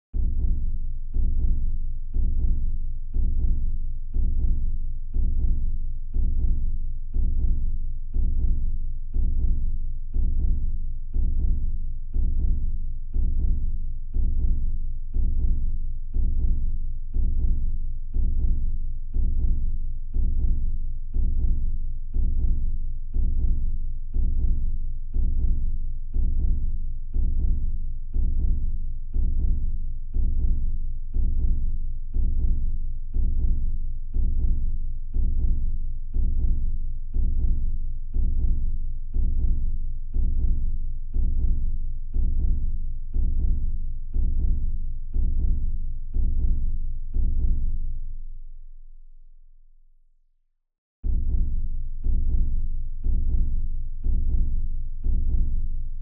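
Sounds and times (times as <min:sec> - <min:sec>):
deep steady drum beat: 0:00.2 - 0:48.0, 0:51.0 - 0:56.0.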